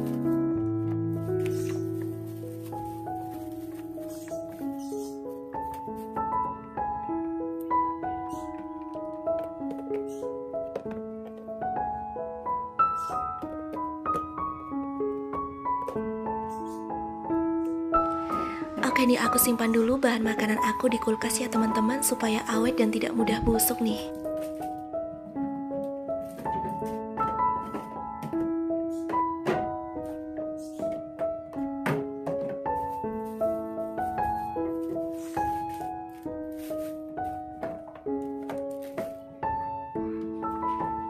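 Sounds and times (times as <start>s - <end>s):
piano tune with sustained notes: 0.0s - 41.0s.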